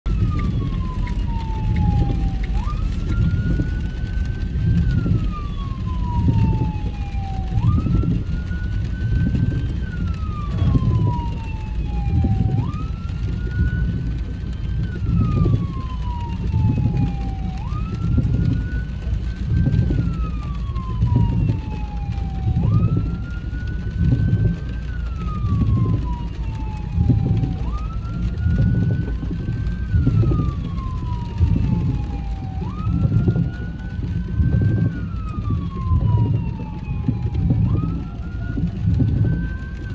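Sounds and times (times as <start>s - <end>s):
car driving on wet road: 0.1s - 39.9s
police siren wailing: 0.1s - 39.9s.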